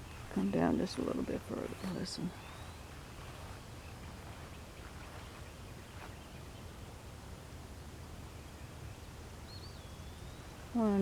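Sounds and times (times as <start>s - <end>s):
faint bird chirp: 0.0s - 6.9s, 8.3s - 11.0s.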